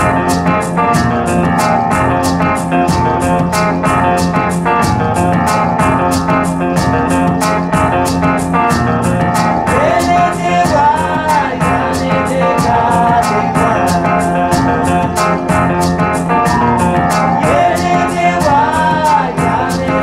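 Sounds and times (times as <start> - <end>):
gliding melody line: 0.0 - 20.0
guitar-led music with drums: 0.0 - 20.0.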